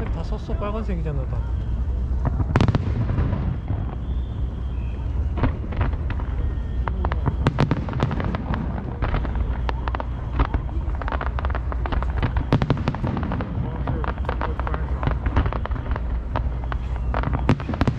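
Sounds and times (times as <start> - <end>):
fireworks bangs and crackles: 0.0 - 17.9
low rumble: 0.0 - 17.9.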